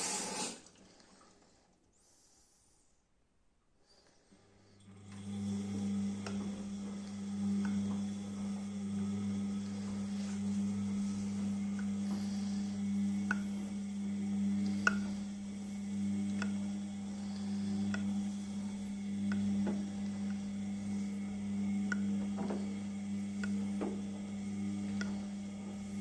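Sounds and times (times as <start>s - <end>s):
washing machine motor hum: 4.7s - 26.0s.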